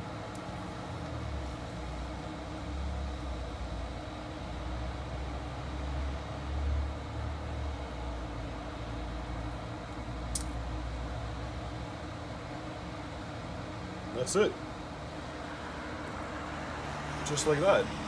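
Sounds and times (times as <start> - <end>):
faint machine hum: 0.0 - 18.0.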